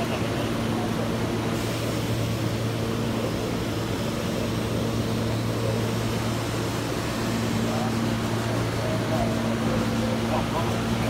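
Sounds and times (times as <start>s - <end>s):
subway train humming: 0.0s - 11.0s.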